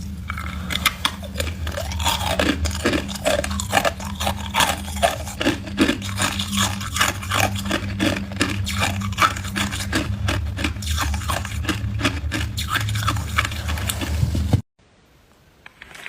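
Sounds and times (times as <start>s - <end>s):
steady low hum: 0.0s - 14.6s
ice crunching in mouth: 0.3s - 14.4s.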